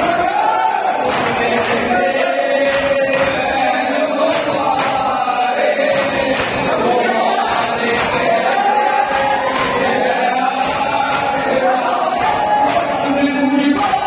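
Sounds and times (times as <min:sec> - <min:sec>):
men chanting a lament: 0:00.0 - 0:14.0
rhythmic chest-beating: 0:00.0 - 0:14.0.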